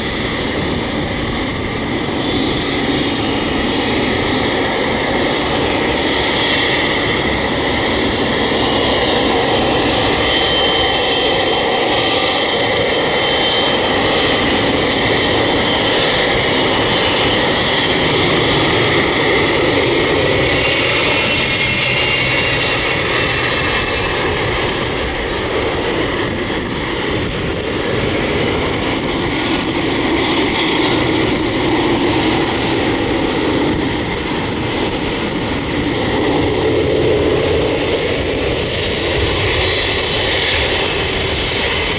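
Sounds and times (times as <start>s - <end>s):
jet engines taxiing: 0.0s - 41.9s.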